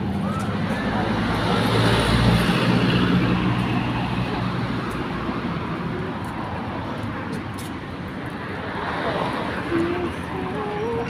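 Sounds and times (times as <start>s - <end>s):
traffic noise: 0.0s - 11.0s.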